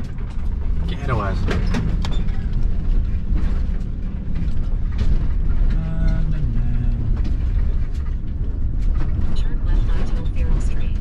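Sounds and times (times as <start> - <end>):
road and engine rumble in van: 0.0 - 11.0.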